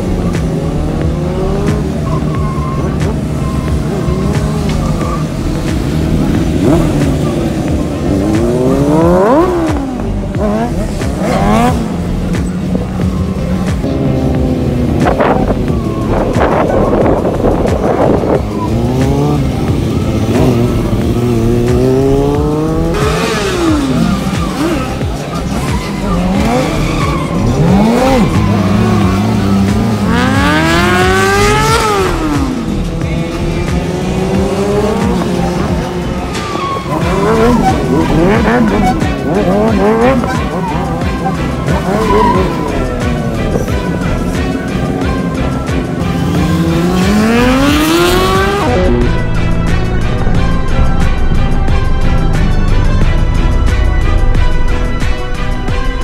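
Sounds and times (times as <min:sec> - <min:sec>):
motorcycle revving: 0:00.0 - 0:56.0.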